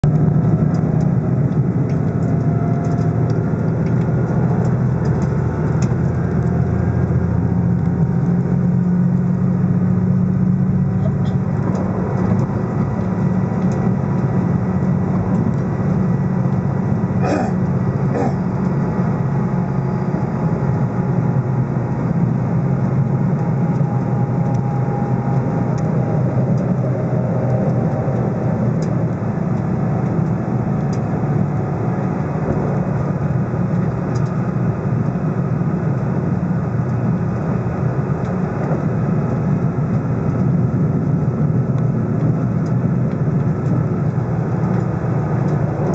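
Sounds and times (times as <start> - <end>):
diesel train rumbling: 0.0 - 45.9.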